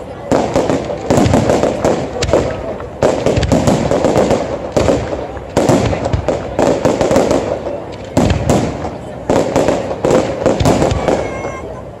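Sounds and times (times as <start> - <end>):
firework shells bursting: 0.3 - 11.4.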